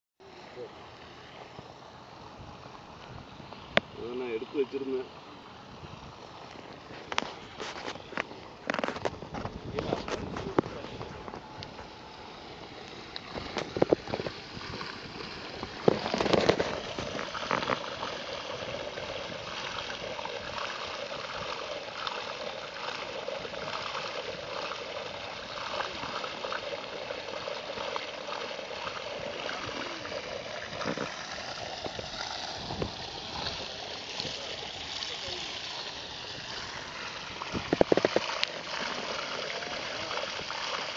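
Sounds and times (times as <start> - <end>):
water gushing from pipe: 0.2 - 40.9.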